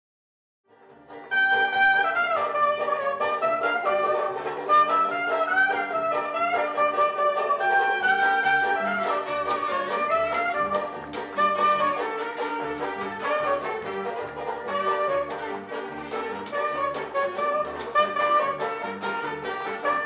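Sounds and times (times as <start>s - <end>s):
brass melody over a beat: 1.2s - 20.0s.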